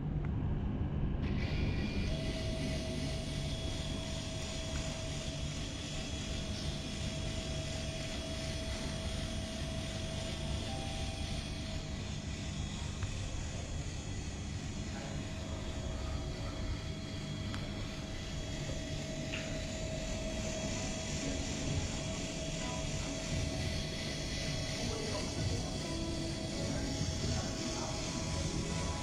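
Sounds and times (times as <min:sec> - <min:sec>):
faint constant whine: 0:00.0 - 0:29.0
underwater motor drone: 0:01.2 - 0:29.0.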